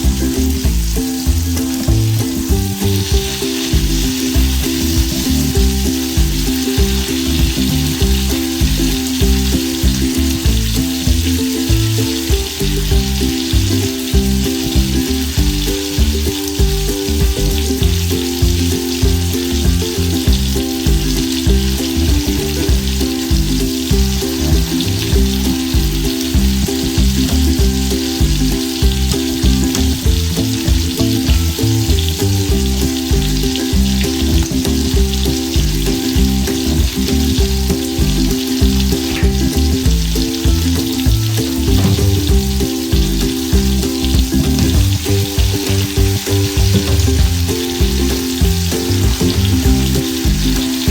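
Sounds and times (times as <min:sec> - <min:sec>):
background music: 0:00.0 - 0:50.9
steak sizzling in a frying pan: 0:00.1 - 0:50.9.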